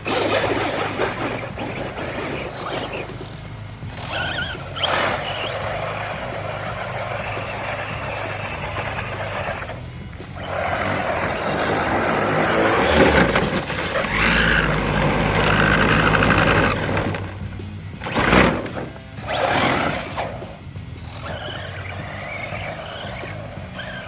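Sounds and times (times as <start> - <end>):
steady rushing noise: 0.0 - 23.8
electric motor whine: 0.0 - 24.0.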